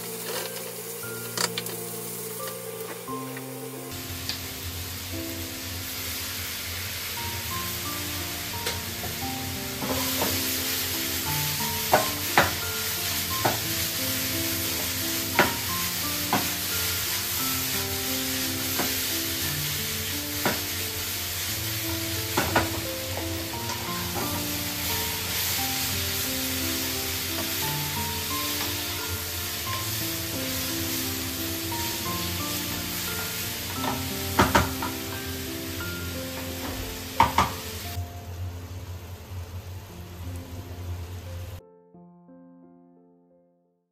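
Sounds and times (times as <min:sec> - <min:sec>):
melodic music: 0:00.0 - 0:06.2, 0:06.9 - 0:38.2
chicken sizzling in a pan: 0:00.0 - 0:41.6.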